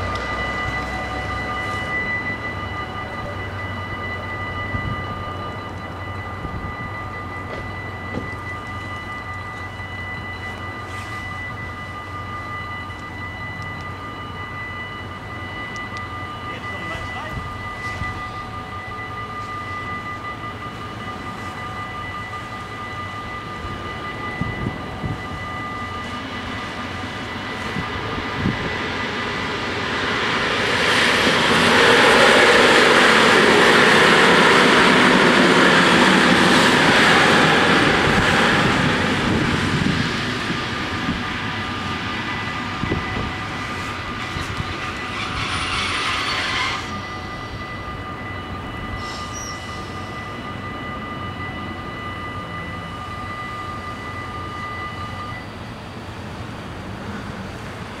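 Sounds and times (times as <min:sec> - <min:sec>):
crossing warning bells ringing: 0:00.0 - 0:58.0
electric train passing: 0:00.0 - 0:58.0.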